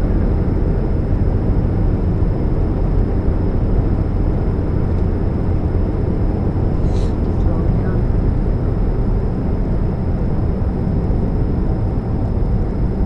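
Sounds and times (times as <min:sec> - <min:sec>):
car engine rumble and drone: 0:00.0 - 0:13.0.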